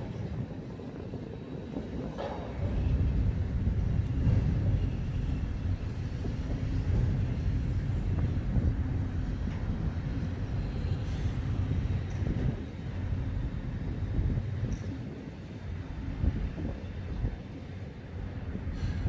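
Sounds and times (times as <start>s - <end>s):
railway carriages rumbling: 0.0s - 19.0s.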